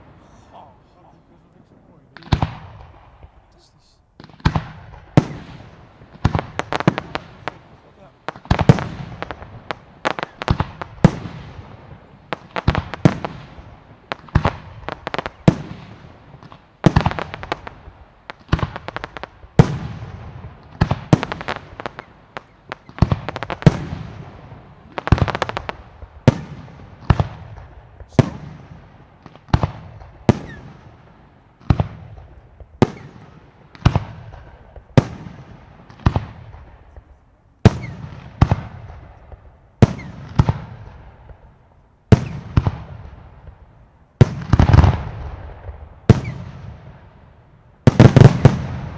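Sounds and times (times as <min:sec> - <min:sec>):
fireworks bangs echoing: 0:00.0 - 0:48.9.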